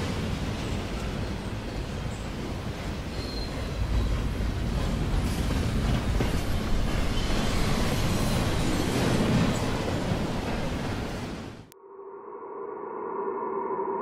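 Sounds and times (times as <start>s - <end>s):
train wheels rumbling on rails: 0.0s - 11.7s.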